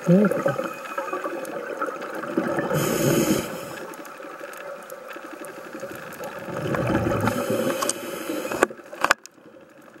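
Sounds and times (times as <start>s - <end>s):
regulator bubbles gurgling underwater: 0.0s - 10.0s.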